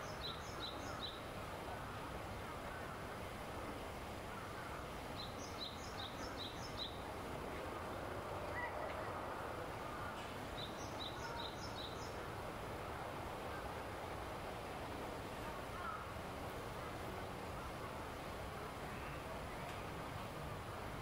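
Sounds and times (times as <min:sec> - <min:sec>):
low outdoor background noise: 0:00.0 - 0:21.0.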